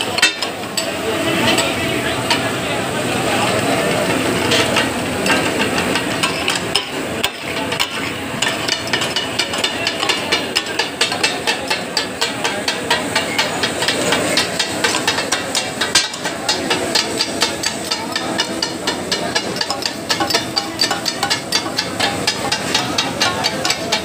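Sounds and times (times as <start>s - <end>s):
metal spatulas striking griddle: 0.0s - 2.5s, 3.4s - 24.0s.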